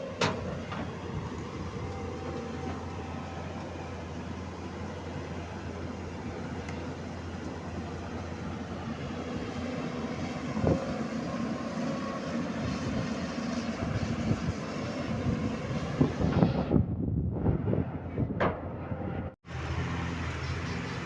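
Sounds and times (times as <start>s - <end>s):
excavator diesel engine running: 0.0s - 16.8s, 17.7s - 21.0s.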